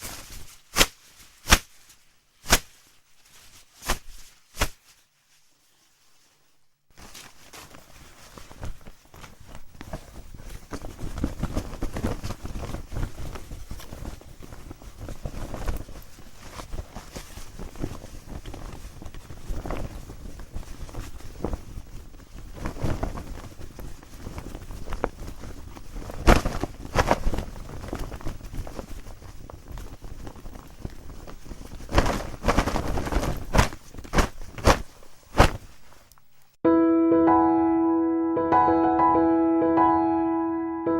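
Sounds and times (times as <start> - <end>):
cloth flapping: 0.0 - 36.1
clothing fabric rustling: 0.0 - 36.6.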